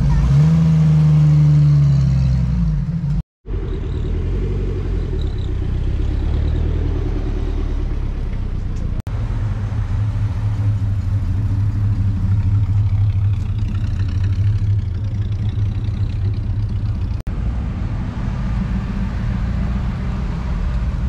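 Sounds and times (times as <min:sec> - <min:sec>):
car engine rumble passing: 0:00.0 - 0:21.0.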